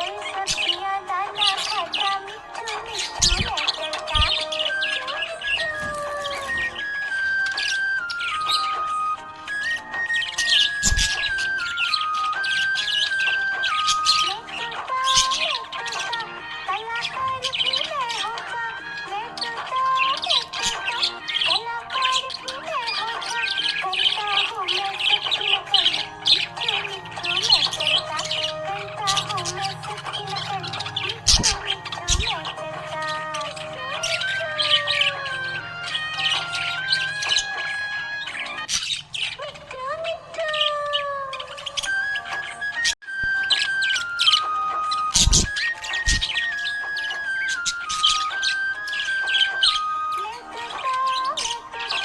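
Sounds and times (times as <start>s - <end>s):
background music: 0.0s - 52.0s
budgerigars chirping and warbling: 0.0s - 52.0s.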